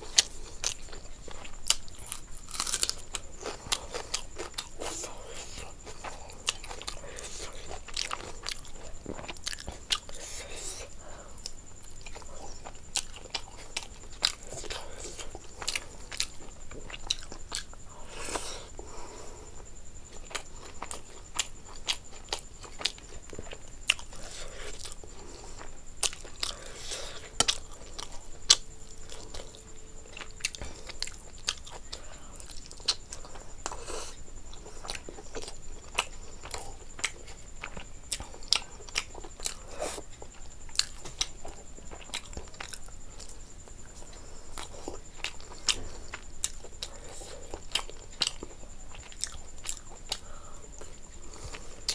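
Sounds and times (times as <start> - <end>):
chewing and crunching food: 0.0 - 51.9.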